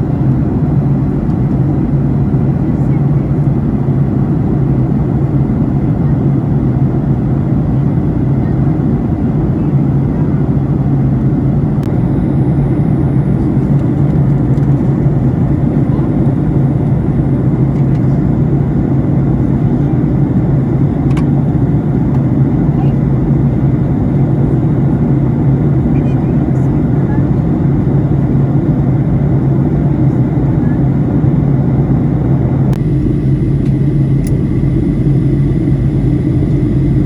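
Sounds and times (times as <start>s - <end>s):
airliner cabin rumble: 0.0s - 37.0s
constant hum: 0.0s - 37.0s.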